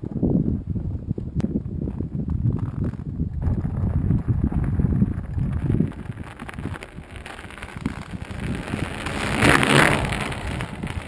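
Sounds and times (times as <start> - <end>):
lake ice crackling: 1.8 - 11.0.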